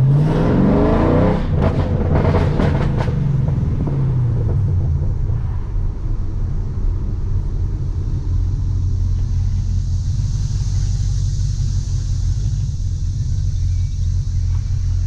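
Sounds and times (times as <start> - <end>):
low car exhaust rumble: 0.0 - 15.0.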